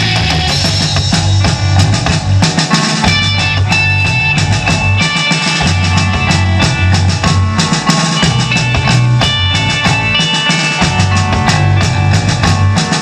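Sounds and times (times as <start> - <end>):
bass guitar: 0.0 - 13.0
drum kit steady beat: 0.0 - 13.0
electric guitar: 0.0 - 13.0.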